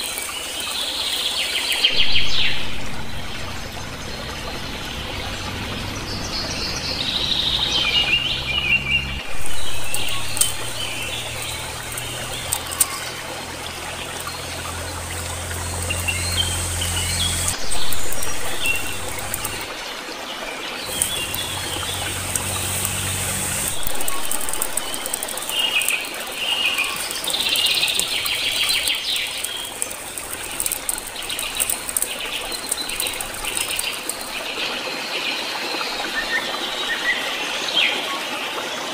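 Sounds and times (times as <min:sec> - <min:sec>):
wood fire crackling: 0:00.0 - 0:19.8, 0:20.9 - 0:34.6
birds chirping: 0:00.0 - 0:38.0
forest ambience hiss: 0:00.0 - 0:38.9.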